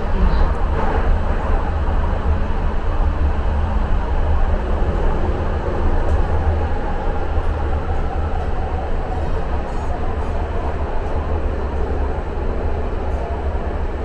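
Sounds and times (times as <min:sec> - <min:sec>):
train rumbling in tunnel: 0:00.0 - 0:14.0.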